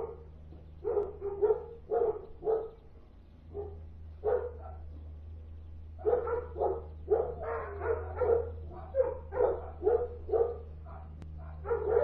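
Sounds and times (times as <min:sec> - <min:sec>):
dog barking: 0:00.0 - 0:02.8, 0:03.5 - 0:05.0, 0:06.0 - 0:12.0
steady low hum: 0:00.0 - 0:12.0.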